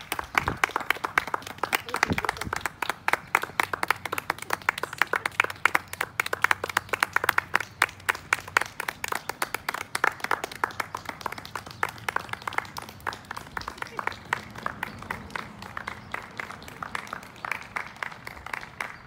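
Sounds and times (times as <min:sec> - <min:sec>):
people clapping: 0:00.0 - 0:19.0.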